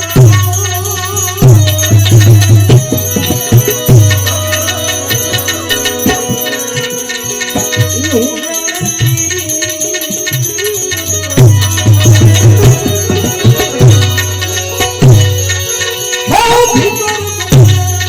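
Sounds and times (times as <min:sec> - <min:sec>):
devotional folk music: 0:00.0 - 0:18.0
jingling rattle beat: 0:00.0 - 0:18.0.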